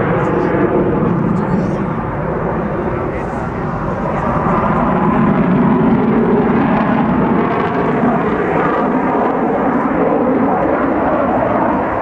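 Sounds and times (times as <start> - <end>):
jet engines overhead: 0.0 - 12.0.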